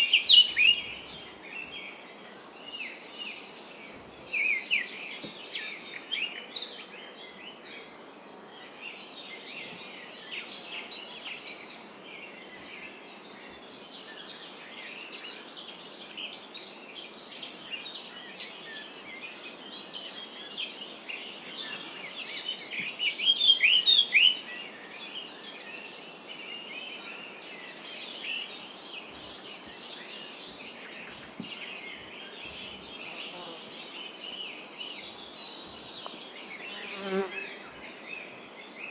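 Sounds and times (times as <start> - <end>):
faint steady hiss: 0.0 - 38.9
small birds chirping: 0.0 - 38.9.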